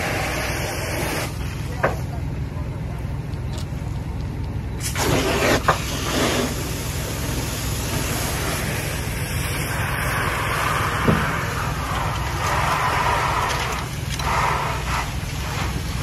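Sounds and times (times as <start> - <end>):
hissing spray and steam: 0.0 - 2.0, 4.8 - 16.0
fire hose spraying water: 0.0 - 2.2, 4.8 - 16.0
low engine rumble: 0.0 - 16.0.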